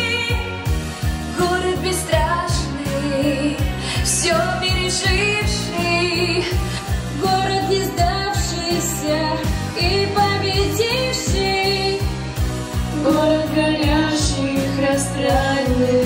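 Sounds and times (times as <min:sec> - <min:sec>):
pop song with steady beat: 0:00.0 - 0:16.0
girl singing: 0:01.4 - 0:06.5, 0:07.2 - 0:12.0, 0:13.0 - 0:16.0.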